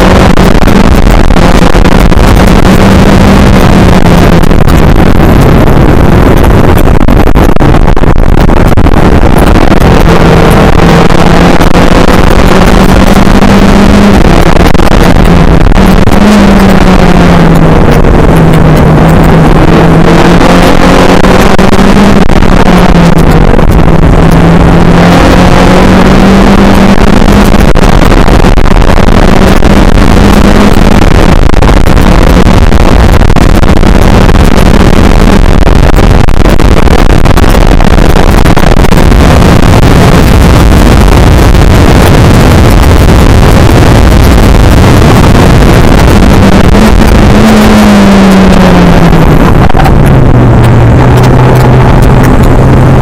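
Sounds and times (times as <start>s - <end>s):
heavy wind noise: 0.0s - 53.0s
race car engine running hard: 0.0s - 53.0s.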